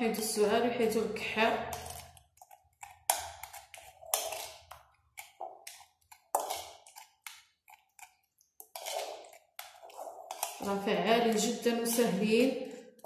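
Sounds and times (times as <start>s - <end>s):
spoon tapping and scraping bowl: 1.4s - 13.0s.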